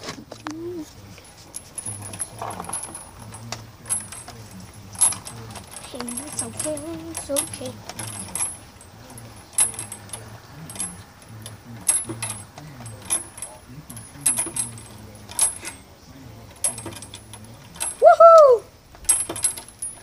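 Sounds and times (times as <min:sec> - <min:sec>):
swing chains clinking: 0:00.0 - 0:20.0.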